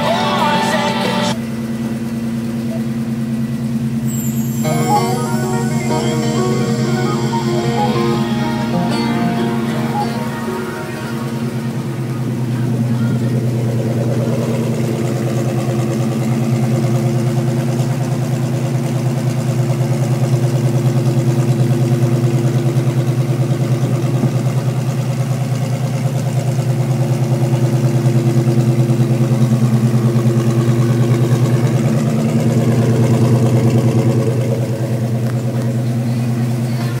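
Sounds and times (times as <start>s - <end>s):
car engine idling: 0.0s - 4.5s, 8.3s - 37.0s.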